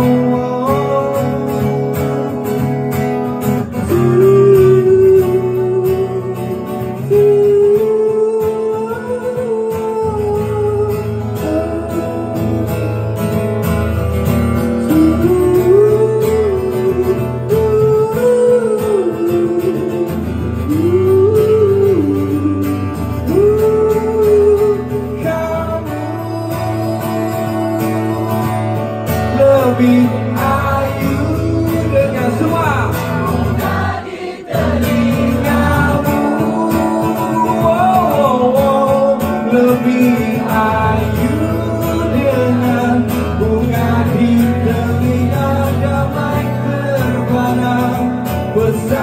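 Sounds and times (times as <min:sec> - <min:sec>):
man singing long notes: 0:00.0 - 0:01.6, 0:03.8 - 0:12.8, 0:14.9 - 0:49.0
strummed acoustic guitar: 0:00.0 - 0:49.0.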